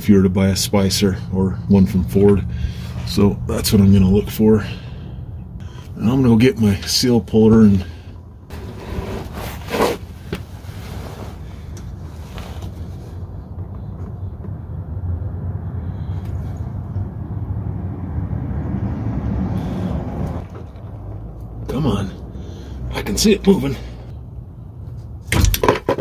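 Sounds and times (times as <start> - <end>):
low steady rumble: 0.0 - 25.3.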